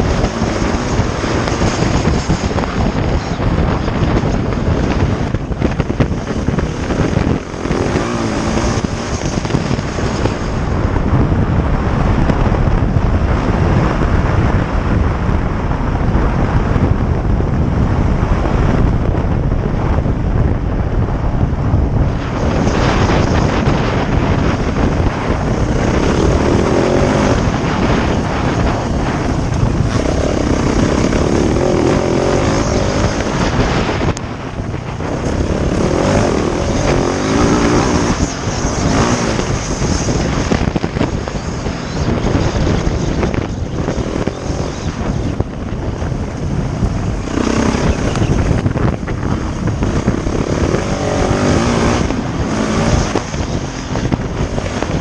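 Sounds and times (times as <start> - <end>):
dirt bike engine revving: 0.0 - 11.0, 21.9 - 55.0
wind rumble on microphone: 0.0 - 55.0.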